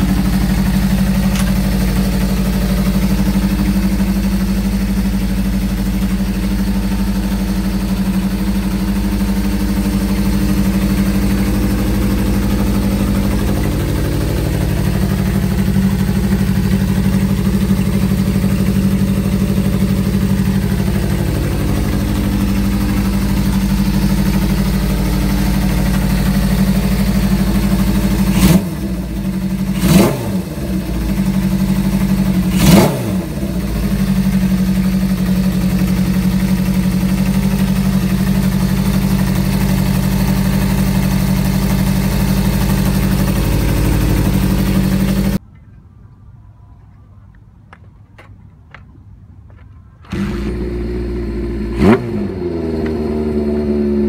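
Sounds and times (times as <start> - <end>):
motorcycle engine idling: 0.0 - 45.4, 49.3 - 54.0
motorcycle engine revving: 0.0 - 45.4, 50.0 - 54.0.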